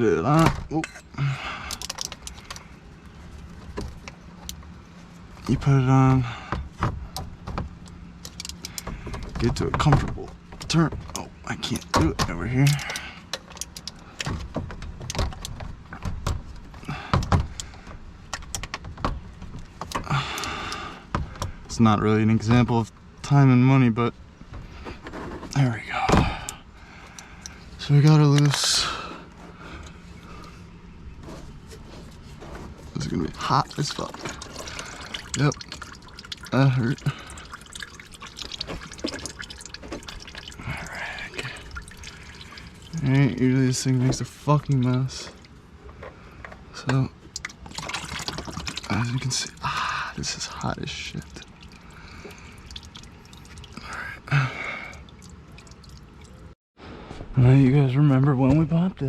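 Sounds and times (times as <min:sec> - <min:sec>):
oil dripping and trickling: 0:00.7 - 0:56.6.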